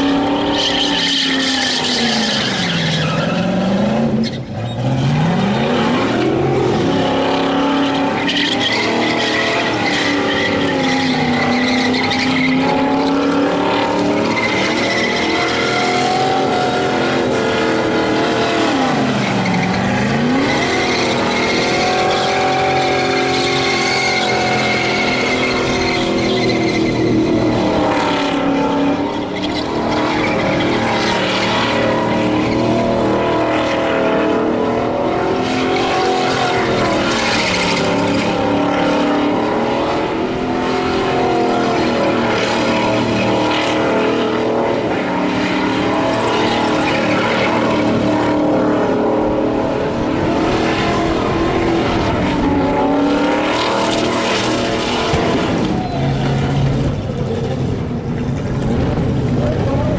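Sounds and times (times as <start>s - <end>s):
car engine at high revs: 0.0s - 59.9s
tyres spinning and squealing: 0.0s - 59.9s.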